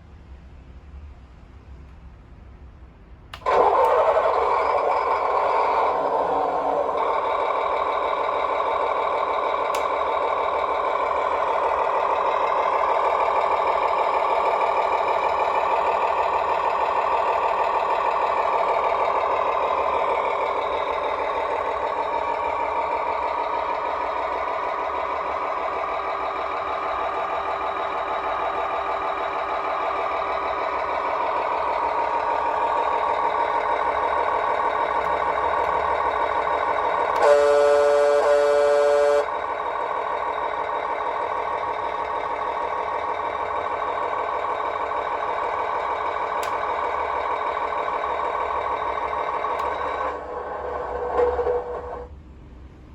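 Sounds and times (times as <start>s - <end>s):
simulated truck engine from speaker: 0.0s - 52.9s.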